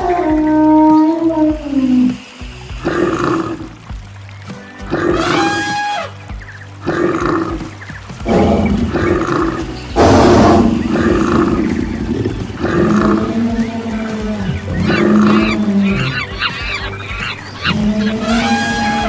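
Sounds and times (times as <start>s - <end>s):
animal roars and calls: 0.0s - 2.2s, 4.9s - 19.0s
background music: 0.0s - 19.0s.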